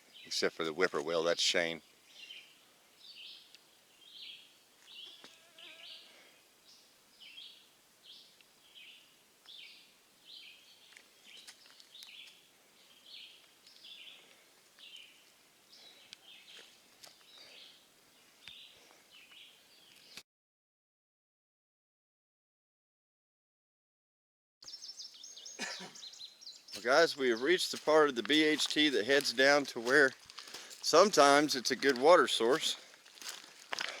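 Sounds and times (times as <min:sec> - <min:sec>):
faint birdsong: 0:00.0 - 0:20.2, 0:24.6 - 0:33.0.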